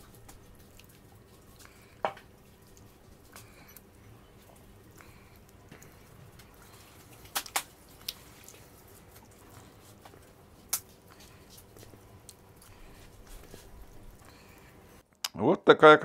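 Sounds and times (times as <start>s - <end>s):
wet squishing of fish on skewers: 0.0s - 15.0s.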